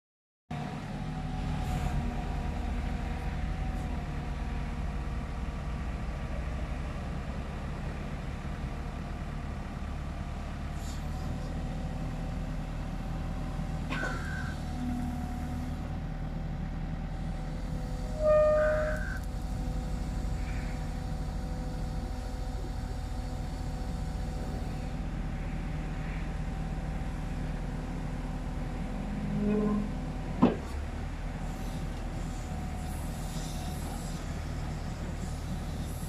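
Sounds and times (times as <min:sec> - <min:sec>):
diesel engine running: 0:00.6 - 0:36.0.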